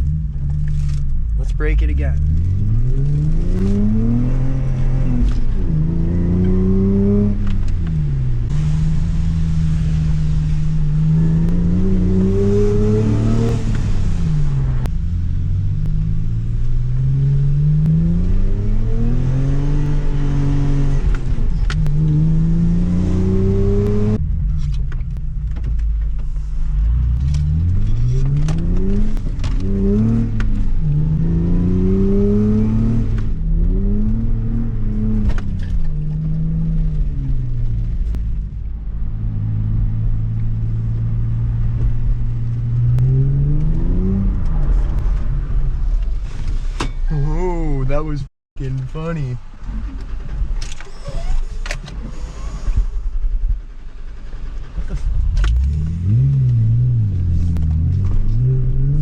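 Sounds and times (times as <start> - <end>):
car engine revving: 0.0 - 46.3, 54.2 - 59.0.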